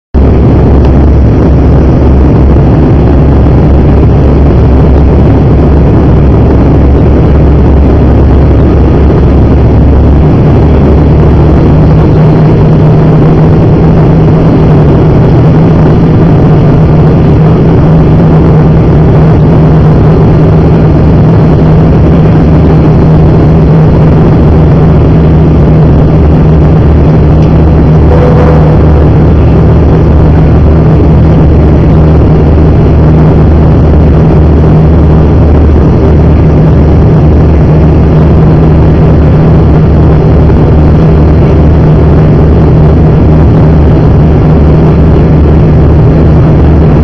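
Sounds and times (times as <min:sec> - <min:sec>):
turboprop engines droning: 0:00.2 - 0:47.0.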